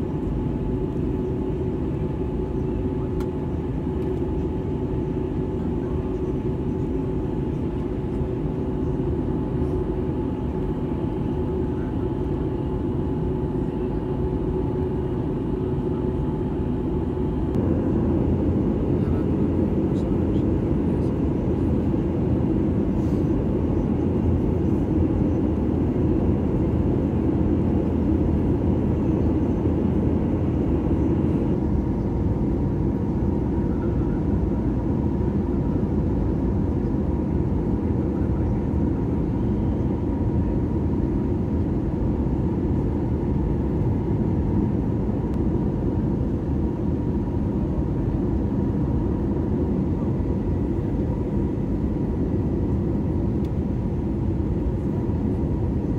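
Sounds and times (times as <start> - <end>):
airflow and engine rumble: 0.0 - 55.9.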